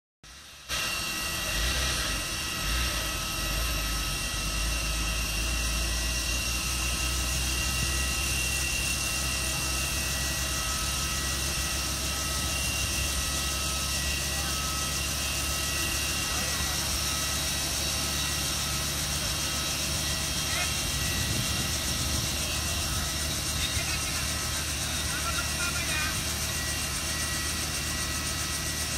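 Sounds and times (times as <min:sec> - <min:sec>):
helicopter running on the ground: 0:00.3 - 0:28.9.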